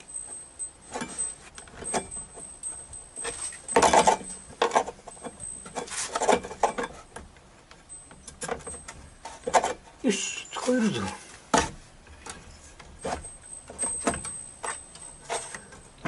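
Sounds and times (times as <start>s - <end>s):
small metal parts clinking: 0.0s - 11.2s, 12.0s - 16.0s.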